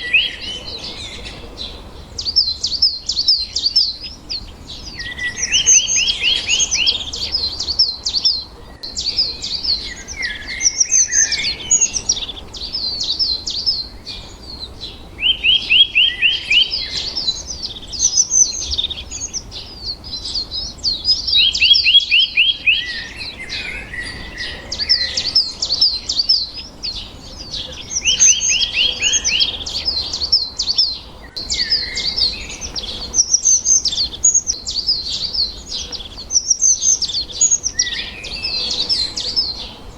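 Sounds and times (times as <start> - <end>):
bird trill: 0.0 - 39.9
small birds chirping: 0.0 - 39.9.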